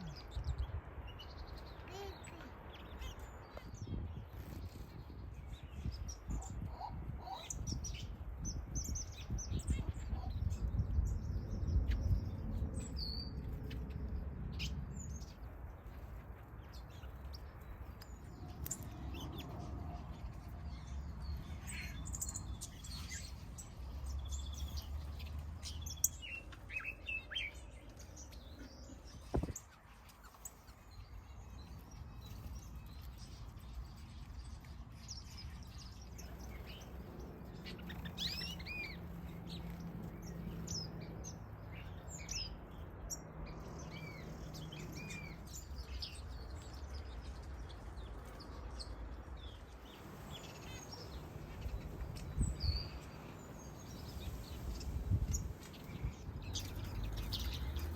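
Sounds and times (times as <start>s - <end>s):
finches chirping and calling: 0.0s - 57.9s.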